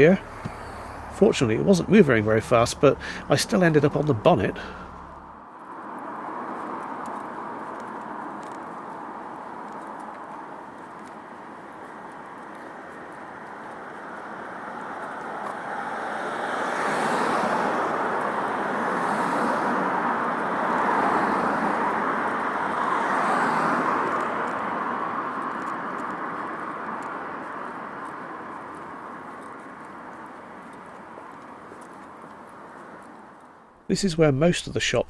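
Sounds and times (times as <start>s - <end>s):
cars passing close by: 0.0s - 34.4s.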